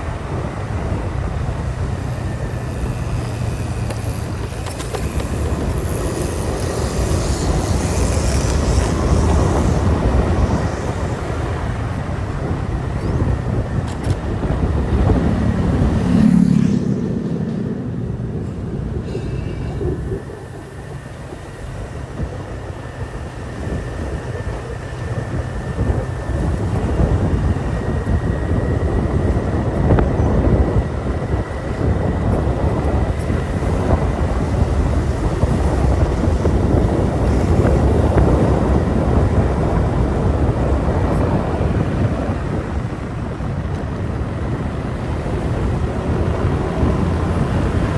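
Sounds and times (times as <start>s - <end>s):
motorbike engine running: 0.0s - 19.1s, 20.0s - 47.9s
wind and road noise: 0.0s - 47.9s.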